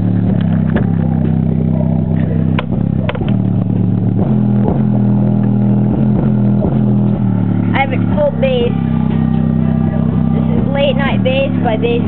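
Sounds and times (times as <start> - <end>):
distorted deep bass notes: 0.0 - 12.0.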